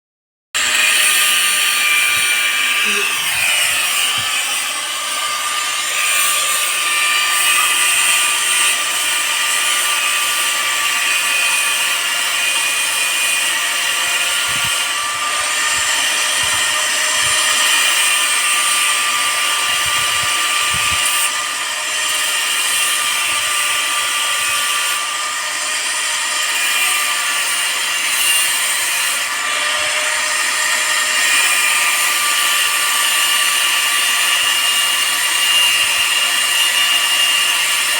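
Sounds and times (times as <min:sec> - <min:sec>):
electric cutter whining: 0:00.6 - 0:37.9.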